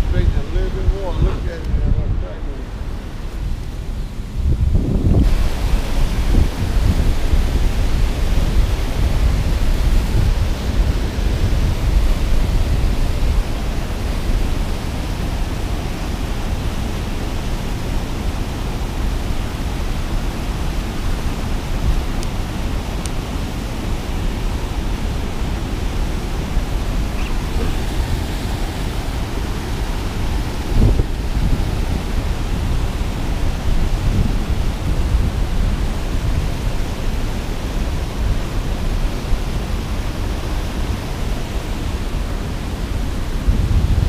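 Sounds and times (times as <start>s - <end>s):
water churning below spillway: 0.0s - 44.0s
wind rumbling on microphone: 0.0s - 44.0s.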